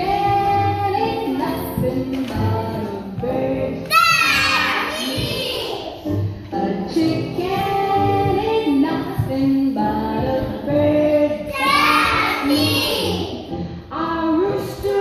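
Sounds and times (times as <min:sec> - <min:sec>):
young children singing: 0:00.0 - 0:14.2.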